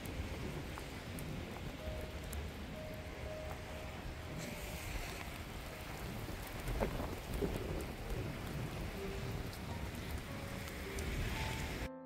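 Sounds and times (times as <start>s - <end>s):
heavy rain falling: 0.0s - 11.9s.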